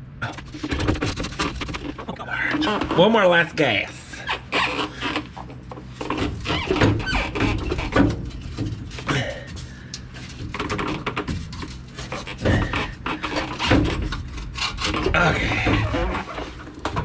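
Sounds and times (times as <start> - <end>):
metal knocks clanks and scrapes: 0.2 - 3.3, 4.2 - 17.0.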